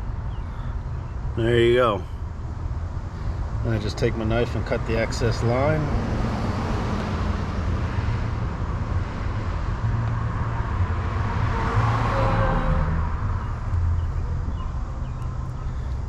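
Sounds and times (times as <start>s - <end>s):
constant low rumble: 0.0s - 6.1s, 7.0s - 16.0s
car passing: 3.1s - 16.0s.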